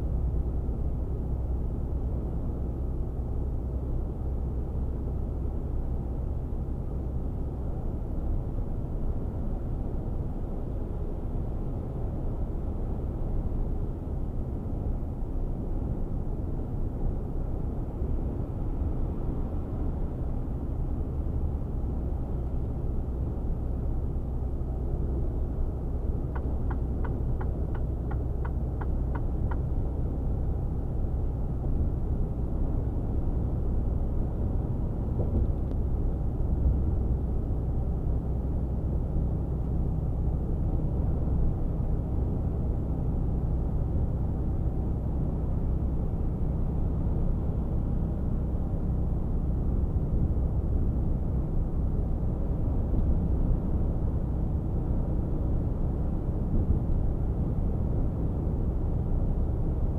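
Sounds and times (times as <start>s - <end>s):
diesel truck engine drone: 0.0s - 59.9s
road and tyre noise: 0.0s - 59.9s.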